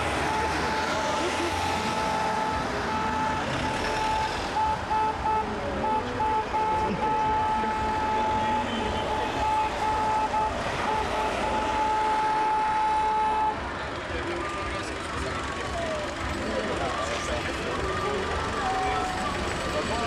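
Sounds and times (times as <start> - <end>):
slow-moving vehicles engine noise: 0.0 - 20.0.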